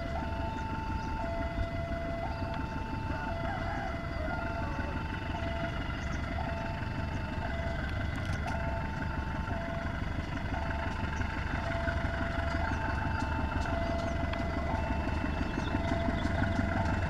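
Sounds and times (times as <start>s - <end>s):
locomotive diesel engine rumbling: 0.0s - 17.0s
two-tone warning signal: 0.0s - 17.0s.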